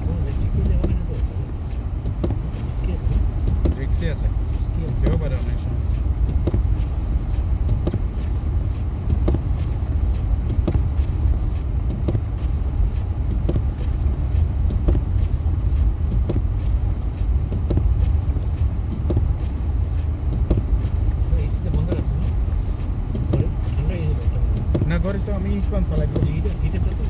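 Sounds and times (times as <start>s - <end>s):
truck road and engine rumble: 0.0s - 27.0s.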